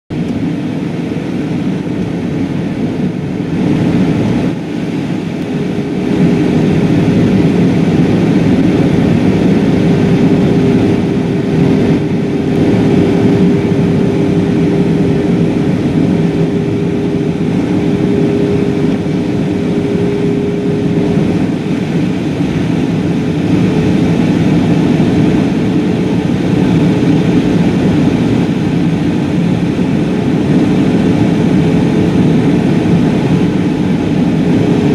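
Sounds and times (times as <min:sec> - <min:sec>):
airflow rushing in aircraft cabin: 0:00.1 - 0:34.9
jet engines humming: 0:00.1 - 0:34.9
steady tone: 0:03.7 - 0:34.9.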